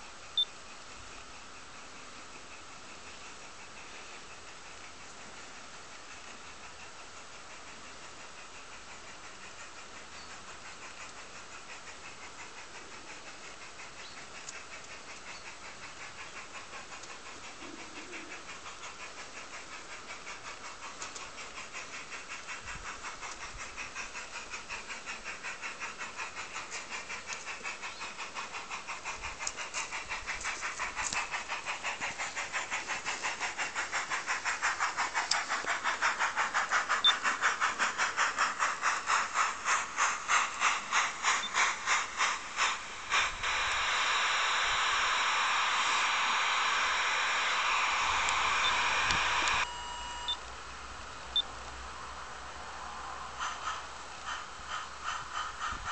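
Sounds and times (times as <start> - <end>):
model steam train running: 0.0 - 55.9.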